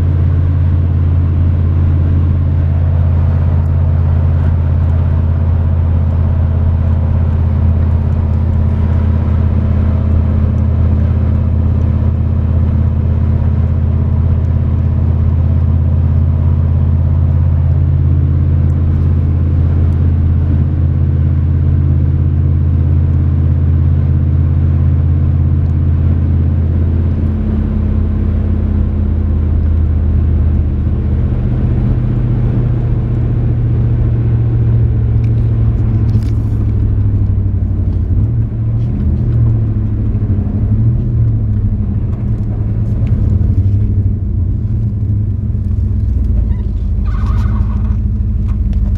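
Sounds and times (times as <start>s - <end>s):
pickup truck engine running: 0.0s - 48.9s
road noise: 0.0s - 48.9s.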